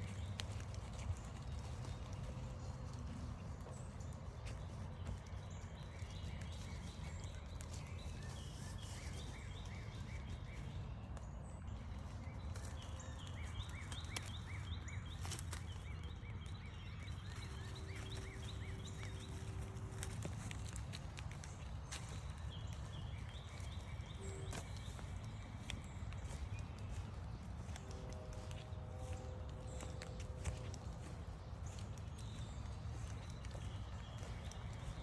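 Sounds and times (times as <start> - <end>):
footsteps crunching on trail: 0.0 - 35.0
songbird chirping: 0.0 - 35.0.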